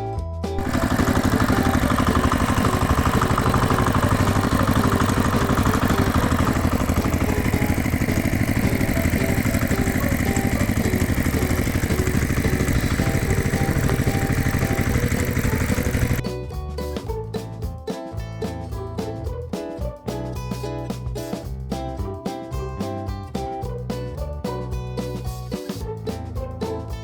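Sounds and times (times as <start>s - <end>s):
tractor engine chugging: 0.6s - 27.0s.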